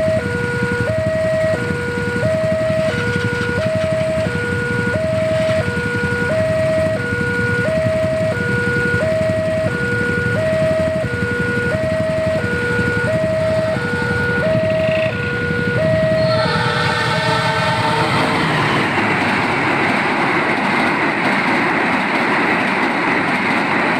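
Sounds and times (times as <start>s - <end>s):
level crossing alarm two-tone: 0.0s - 19.9s
train horn: 0.0s - 20.6s.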